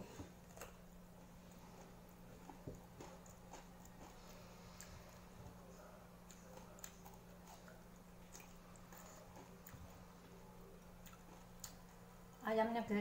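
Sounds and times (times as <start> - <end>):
faint chewing: 0.0 - 12.2
low steady hum: 0.0 - 13.0.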